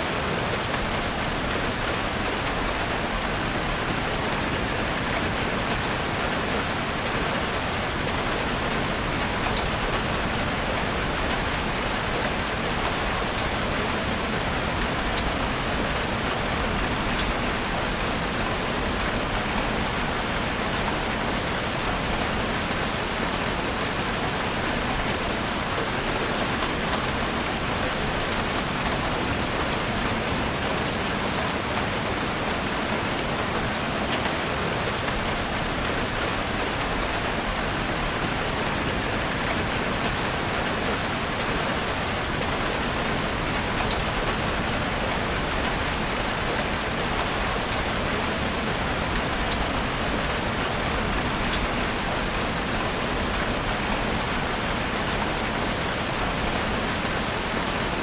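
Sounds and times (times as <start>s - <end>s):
heavy rain drumming on a roof: 0.0s - 58.0s.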